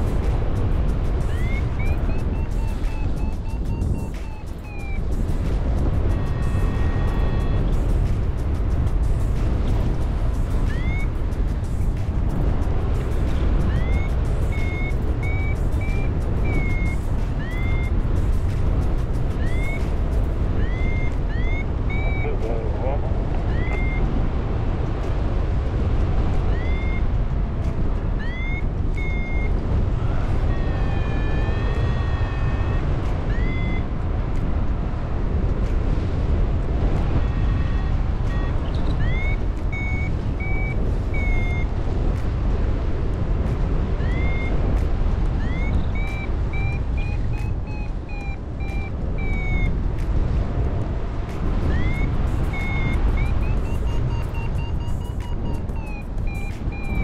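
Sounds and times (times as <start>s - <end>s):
variometer chirps: 0.0s - 24.2s, 26.2s - 34.6s, 36.9s - 42.3s, 43.4s - 57.0s
wavering variometer tones: 0.0s - 35.8s, 36.4s - 57.0s
wind rushing over microphone: 0.0s - 57.0s.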